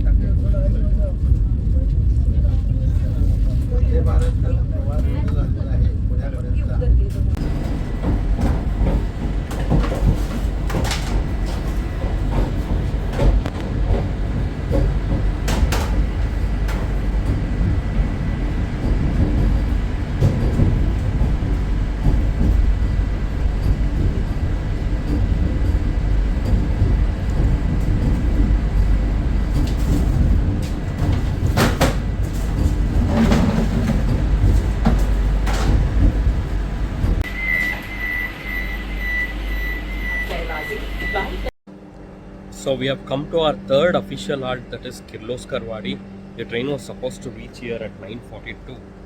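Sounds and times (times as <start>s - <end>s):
train rumble and rattle: 0.0s - 37.3s, 42.4s - 49.0s.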